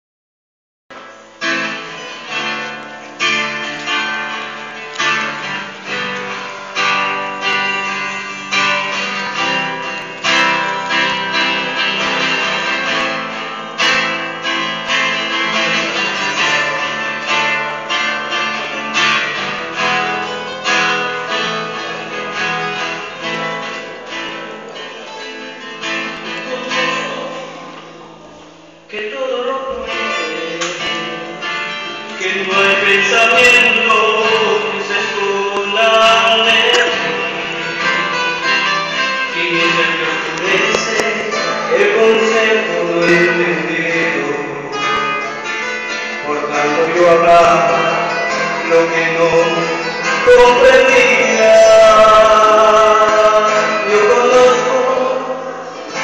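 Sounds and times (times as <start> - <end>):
acoustic guitar strummed: 0.9 - 56.0.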